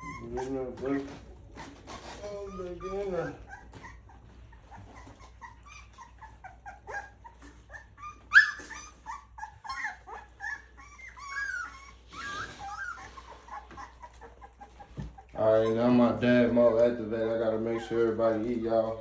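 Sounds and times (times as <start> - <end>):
puppies whining and squeaking: 0.0 - 19.0
puppy yelp: 0.0 - 19.0.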